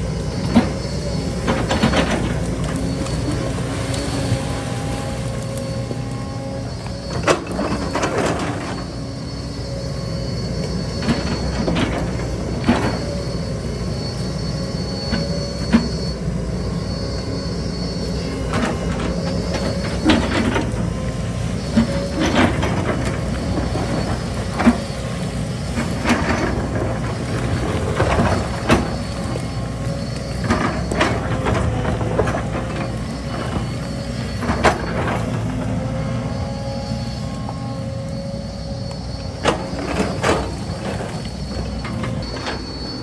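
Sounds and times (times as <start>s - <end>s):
diesel engines running: 0.0s - 43.0s
thin high whine: 0.0s - 43.0s.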